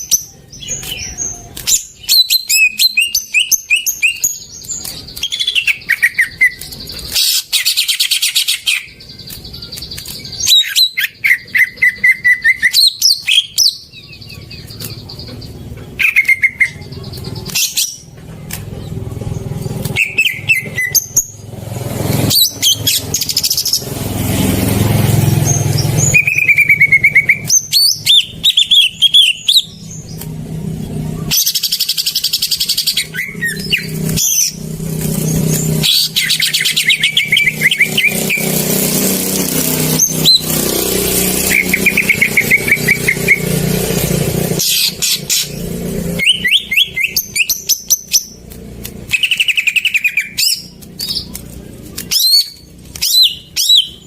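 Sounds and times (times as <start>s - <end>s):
bird singing chirping trills: 0.0s - 54.0s.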